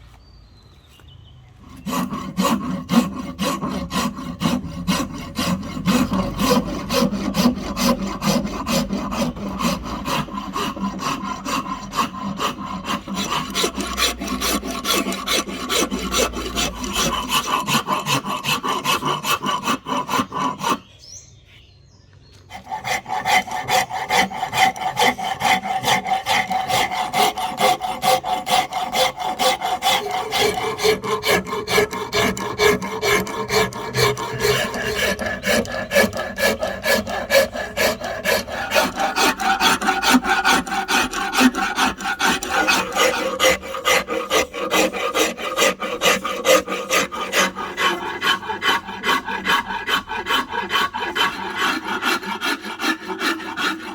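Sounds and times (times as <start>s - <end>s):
rasp scraping wood: 1.6s - 21.0s, 22.5s - 53.9s.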